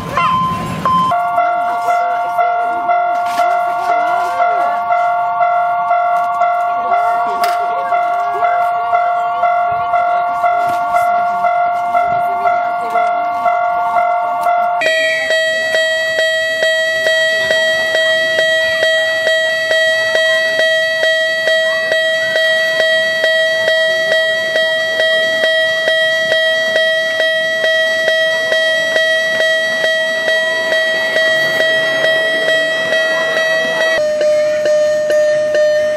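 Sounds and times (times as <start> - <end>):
railroad crossing warning bell: 0.0 - 35.9.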